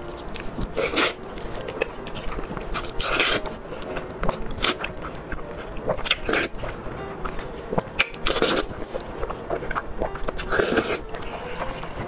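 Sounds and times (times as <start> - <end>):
person eating with wet chewing: 0.0 - 12.0.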